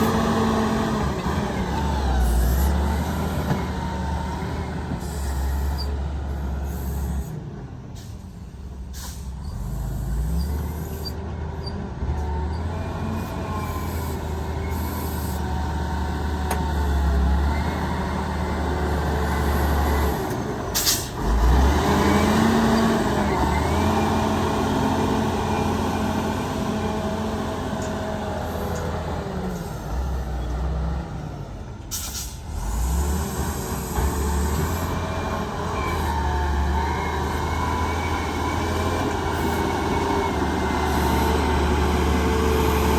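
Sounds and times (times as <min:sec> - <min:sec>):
heavy diesel machinery engines: 0:00.0 - 0:42.9.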